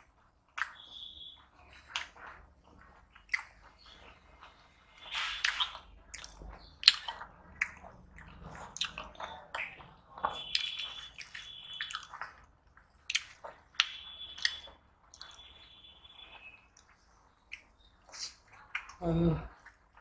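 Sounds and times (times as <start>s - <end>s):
wet chewing and lip smacks: 0.0s - 20.0s.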